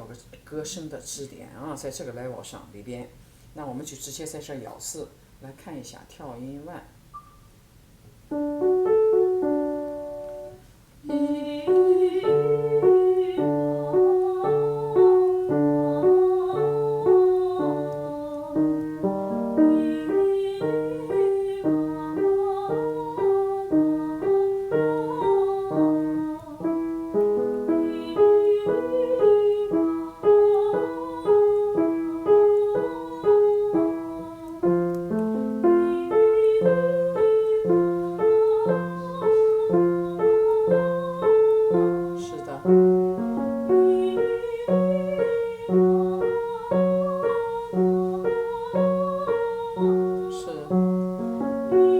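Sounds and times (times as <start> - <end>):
piano playing repeated figure: 7.1 - 51.9.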